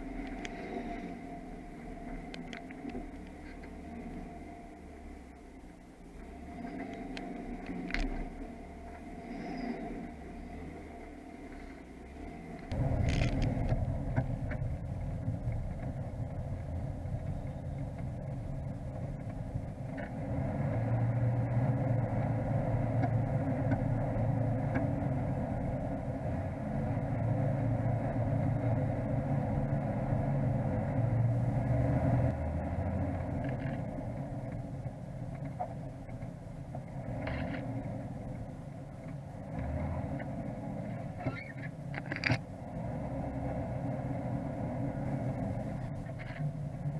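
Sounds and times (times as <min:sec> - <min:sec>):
off-road vehicle engine rumble: 0:00.0 - 0:46.9.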